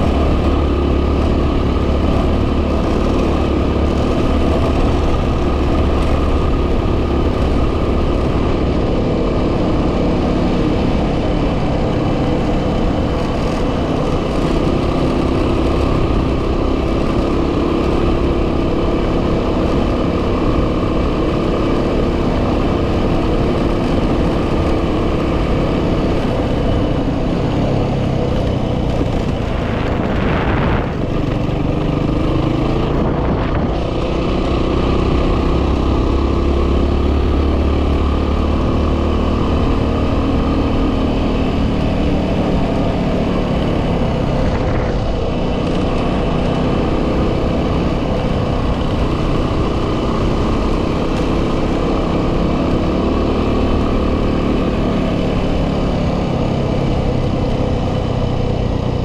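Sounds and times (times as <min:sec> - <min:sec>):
dirt bike engine running: 0:00.0 - 0:59.0
wind noise on microphone: 0:00.0 - 0:59.0.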